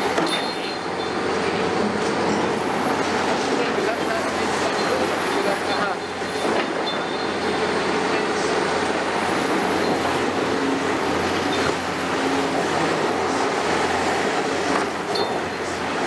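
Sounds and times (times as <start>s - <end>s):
excavator diesel engine running: 0.0s - 16.0s
hydraulics humming: 0.0s - 16.0s.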